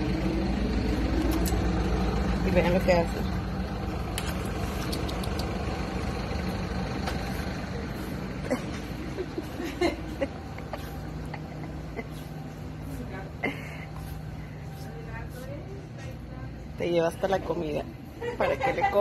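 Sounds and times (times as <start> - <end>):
supermarket background hum: 0.0 - 19.0.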